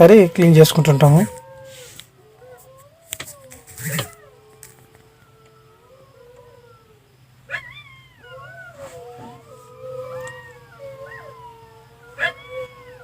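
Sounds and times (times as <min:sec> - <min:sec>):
wavering animal calls: 0:00.0 - 0:13.0.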